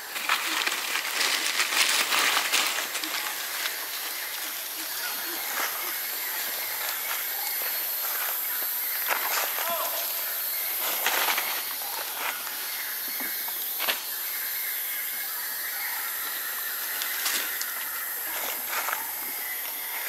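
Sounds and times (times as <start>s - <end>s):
dry leaves rustling underfoot: 0.0s - 15.0s, 16.0s - 20.0s
forest ambience hiss: 0.0s - 20.0s.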